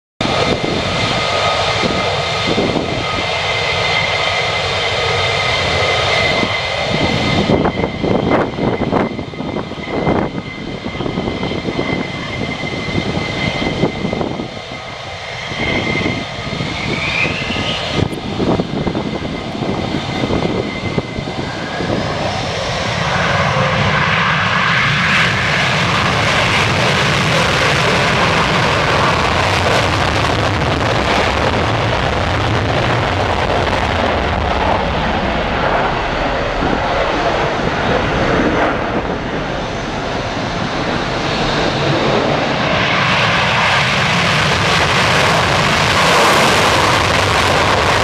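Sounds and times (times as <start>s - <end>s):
high jet whine: 0.2s - 48.0s
jet afterburner roar: 0.2s - 48.0s
jet engines running: 0.2s - 48.0s.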